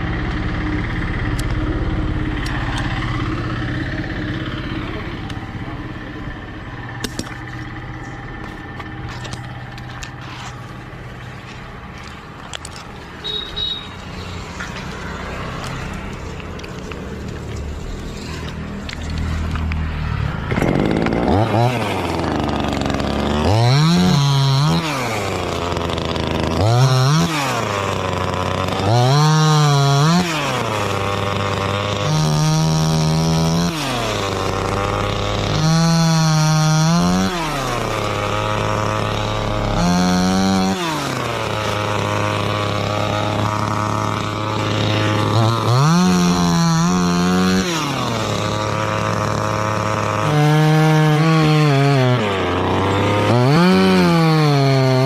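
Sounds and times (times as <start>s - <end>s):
chainsaw revving and idling: 0.0s - 55.0s.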